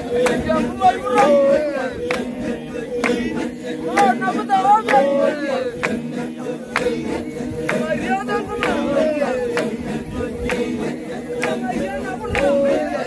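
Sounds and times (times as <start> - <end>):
crowd singing unaccompanied: 0.0 - 13.0.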